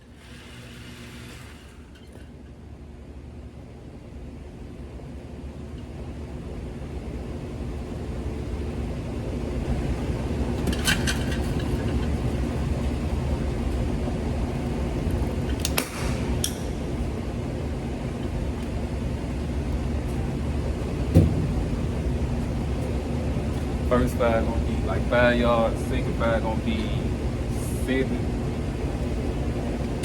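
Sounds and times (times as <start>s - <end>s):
low motor hum: 0.0s - 30.0s.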